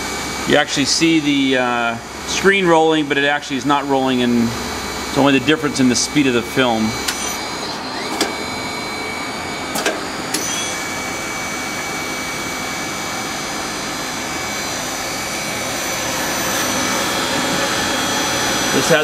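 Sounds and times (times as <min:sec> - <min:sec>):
lathe whirring: 0:00.0 - 0:19.0.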